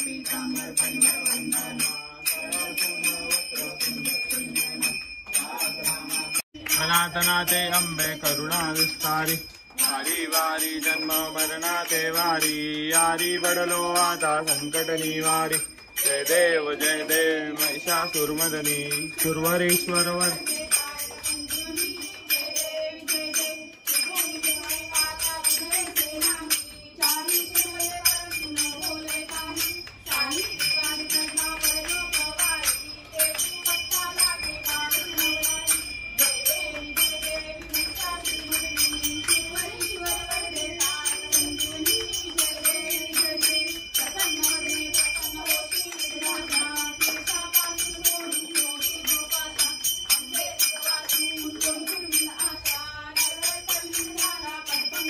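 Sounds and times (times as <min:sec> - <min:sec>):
group singing devotional song: 0:00.0 - 0:55.0
hand bell rung rapidly: 0:00.0 - 0:55.0.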